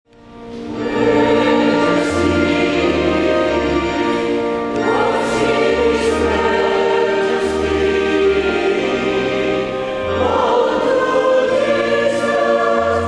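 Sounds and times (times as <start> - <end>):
electronic organ: 0.1 - 13.0
choir singing a hymn: 0.3 - 13.0.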